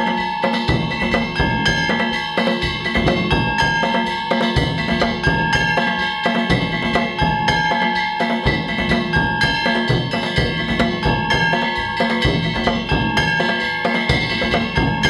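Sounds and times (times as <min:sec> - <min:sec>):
small hand gongs ringing: 0:00.0 - 0:15.0
taiko drums beating fast rhythm: 0:00.0 - 0:15.0.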